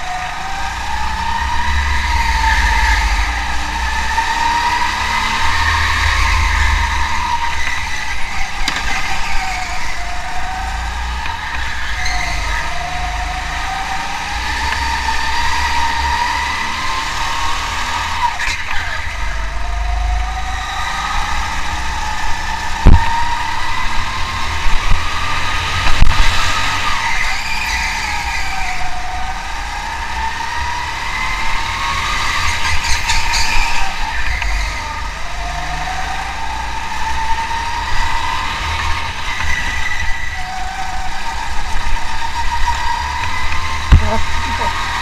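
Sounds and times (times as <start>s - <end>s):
racing engine revving: 0.0s - 45.0s.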